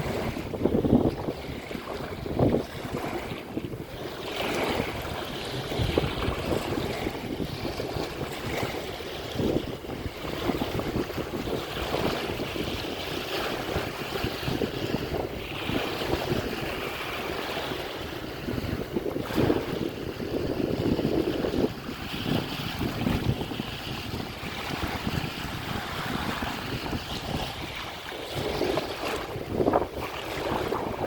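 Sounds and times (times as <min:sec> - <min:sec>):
waves washing onto shore: 0:00.0 - 0:31.0
wind buffeting microphone: 0:00.0 - 0:31.0.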